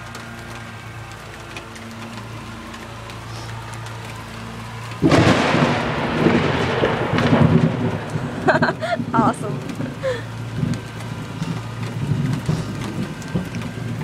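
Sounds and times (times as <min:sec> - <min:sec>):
rain falling: 0:00.0 - 0:14.0
thunder rumbling: 0:00.0 - 0:14.0.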